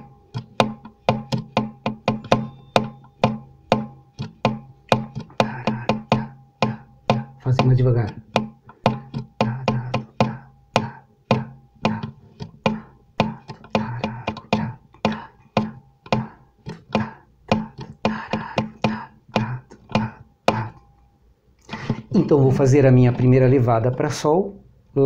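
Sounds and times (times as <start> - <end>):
acoustic guitar bossa nova rhythm: 0.0 - 20.8.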